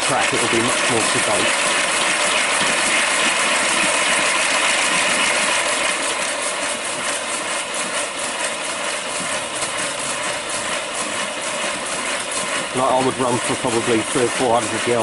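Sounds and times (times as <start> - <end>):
steam exhaust chuffs: 0.0 - 15.0.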